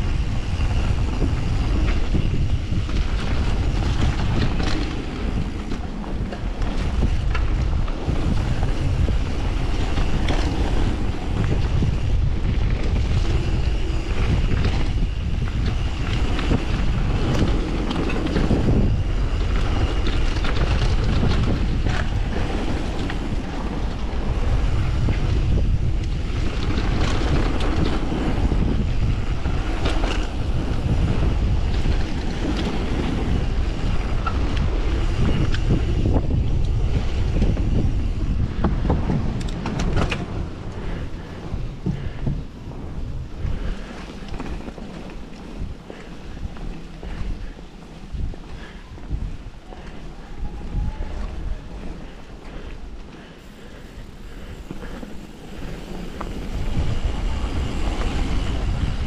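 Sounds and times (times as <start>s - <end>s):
bike rattling over bumps: 0.0s - 59.0s
wind buffeting microphone: 0.0s - 59.0s.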